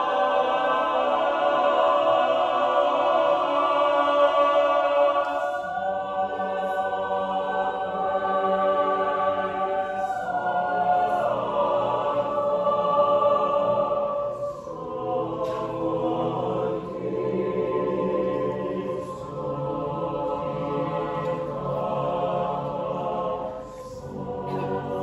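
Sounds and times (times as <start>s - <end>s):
mixed choir singing: 0.0s - 25.0s.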